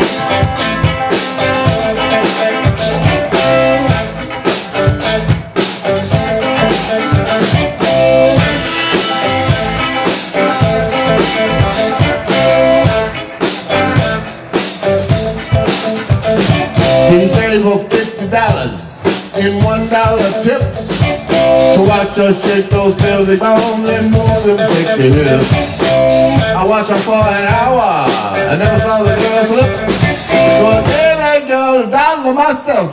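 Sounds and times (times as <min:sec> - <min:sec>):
live blues band playing: 0:00.0 - 0:31.9.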